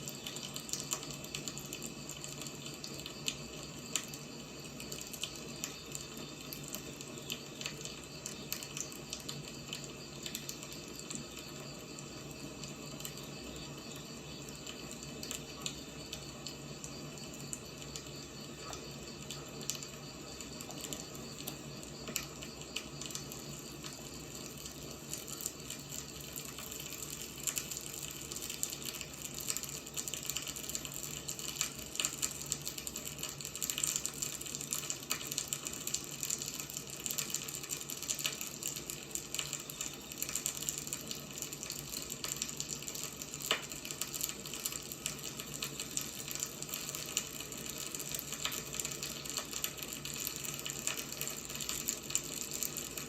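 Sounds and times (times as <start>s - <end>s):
fire crackles and pops: 0.0s - 53.0s
fire hissing: 0.0s - 53.0s.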